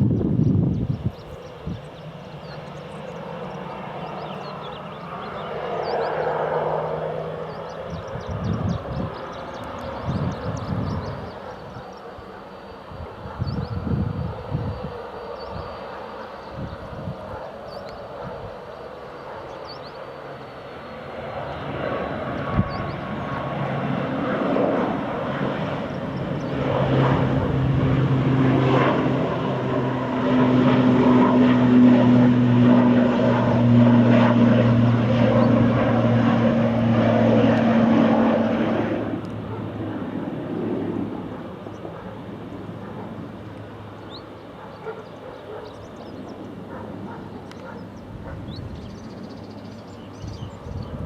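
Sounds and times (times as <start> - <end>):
turboprop airliner passing: 0.0 - 51.0.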